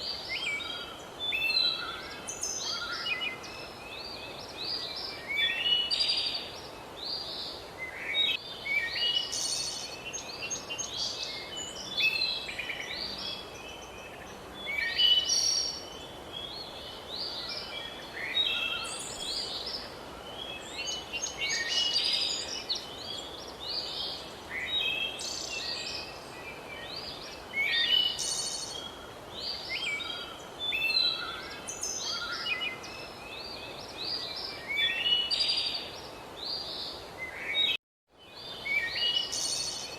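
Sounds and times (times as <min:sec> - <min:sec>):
background hiss: 0:00.0 - 0:39.9
birds chirping and trilling: 0:00.0 - 0:39.9.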